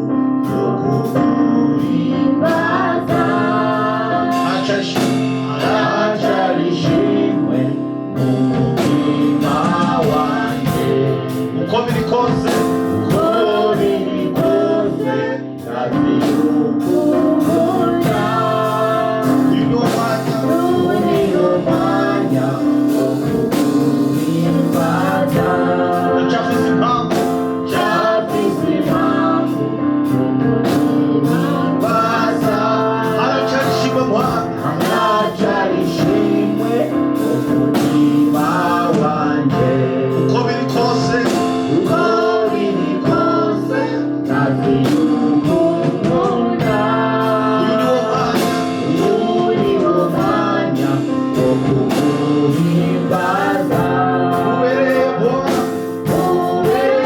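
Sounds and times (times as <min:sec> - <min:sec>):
gospel singing with band: 0:00.0 - 0:57.0.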